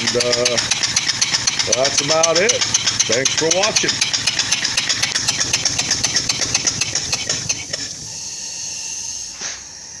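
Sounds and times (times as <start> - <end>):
steam engine exhaust puffs: 0.0 - 10.0.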